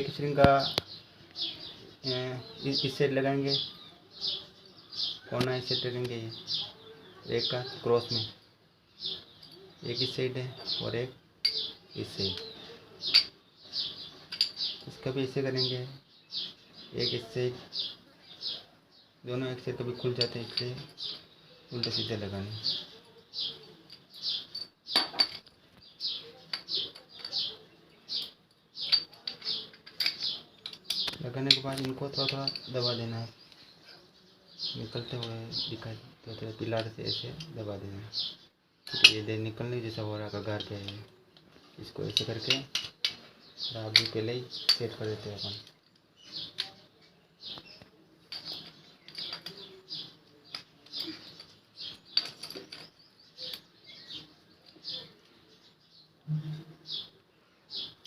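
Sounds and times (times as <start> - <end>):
small bird chirping: 0.0 - 58.0.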